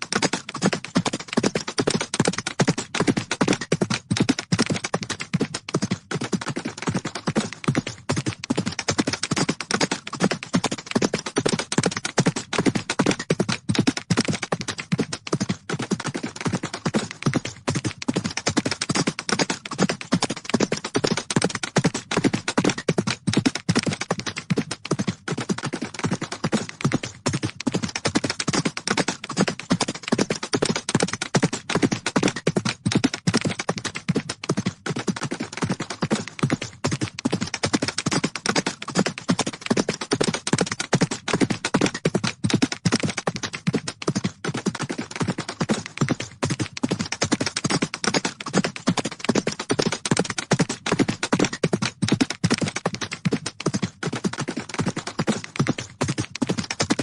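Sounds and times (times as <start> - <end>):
galloping horse hoofbeats: 0.0 - 57.0.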